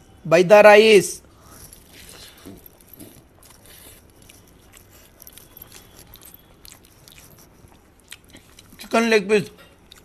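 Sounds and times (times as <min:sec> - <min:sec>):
man chewing food: 0:01.2 - 0:10.0.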